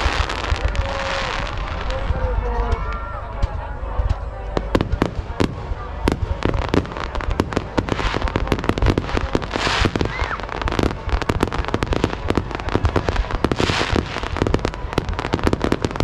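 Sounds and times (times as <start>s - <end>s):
crackling hiss of fireworks: 0.0s - 16.0s
fireworks bursting: 0.0s - 16.0s.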